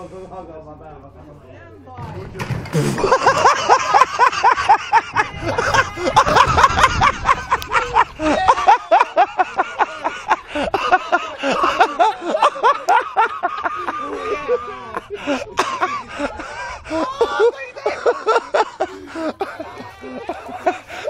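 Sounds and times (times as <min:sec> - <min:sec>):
people laughing hard: 0:02.9 - 0:21.0.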